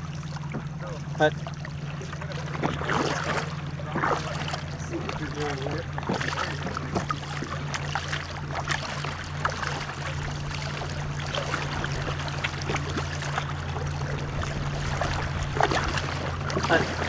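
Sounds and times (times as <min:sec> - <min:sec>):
paddles pulling through water: 0:00.0 - 0:17.0
steady low hum: 0:00.0 - 0:17.0
water splashes and drips: 0:00.0 - 0:17.0.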